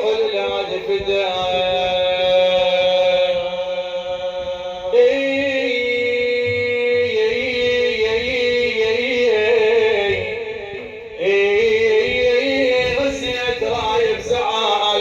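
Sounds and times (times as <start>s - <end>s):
man singing melismatic chant: 0.0s - 15.0s.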